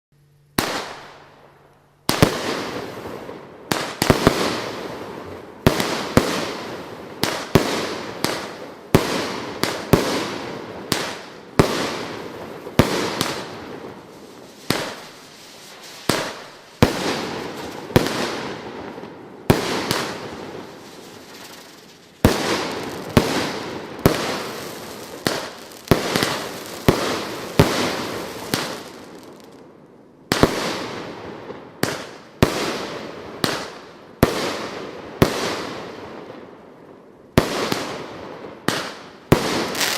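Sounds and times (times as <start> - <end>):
firework cake bangs with hiss: 3.7 - 5.1, 5.7 - 29.6, 30.3 - 36.2, 37.4 - 39.9.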